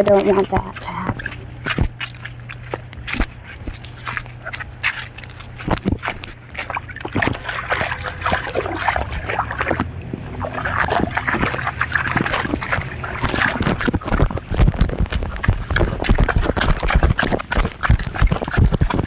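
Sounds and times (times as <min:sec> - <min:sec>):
footsteps splashing on wet ground: 0:00.0 - 0:19.0
steady low rumble: 0:00.0 - 0:19.0.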